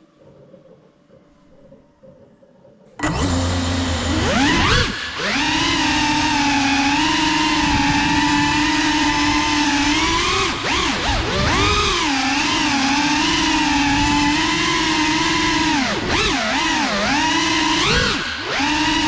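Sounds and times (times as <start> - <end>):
quadcopter motors buzzing whine: 3.0 - 19.0.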